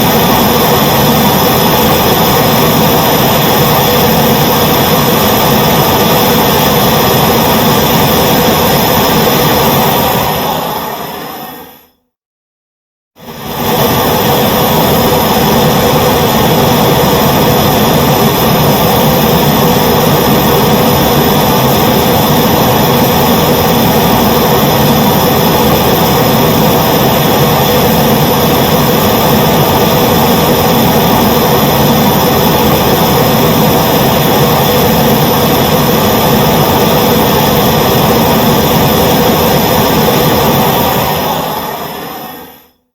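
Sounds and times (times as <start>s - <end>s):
blowtorch flame hissing: 0.0s - 11.8s, 13.2s - 42.7s.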